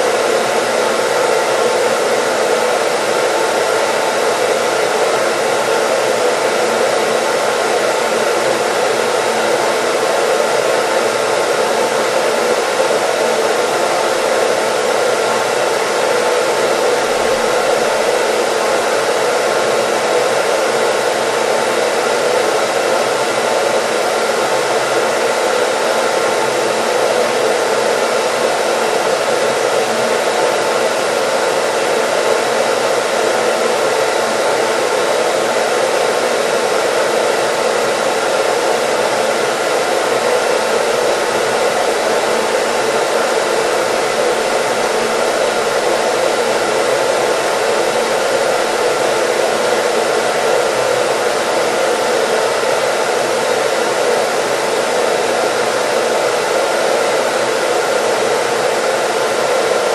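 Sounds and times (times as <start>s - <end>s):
hair dryer blowing air: 0.0s - 59.9s.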